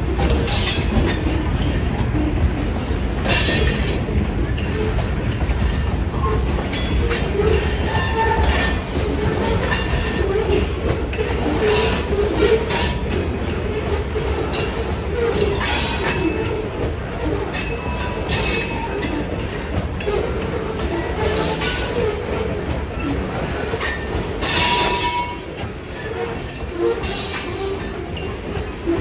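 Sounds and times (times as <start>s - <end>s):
train cars clanking: 0.0s - 29.0s
train wheels rumbling on rails: 0.0s - 29.0s
wheel squeal: 3.3s - 29.0s.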